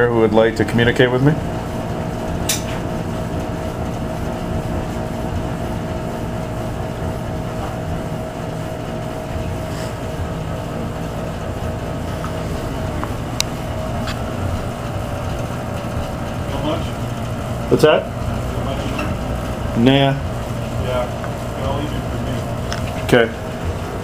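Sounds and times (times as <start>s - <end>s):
boiler room machinery drone: 0.0s - 24.0s.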